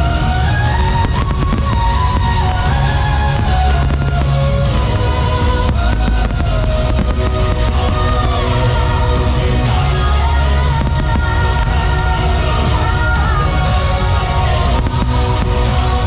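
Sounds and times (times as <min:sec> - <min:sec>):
fireworks bursting: 0:00.0 - 0:16.0
melody over strong bass: 0:00.0 - 0:16.0.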